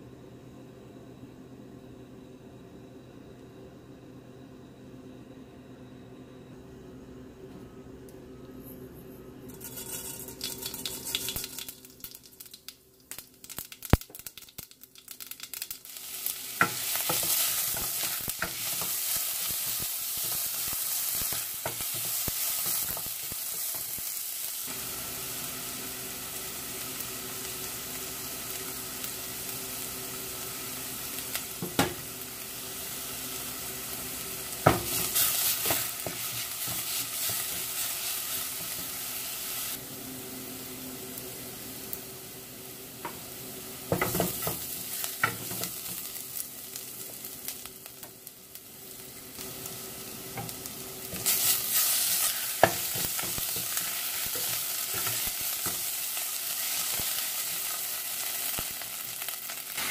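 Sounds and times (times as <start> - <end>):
onions sizzling: 9.5 - 59.9
seeds crackling in hot oil: 9.5 - 59.9.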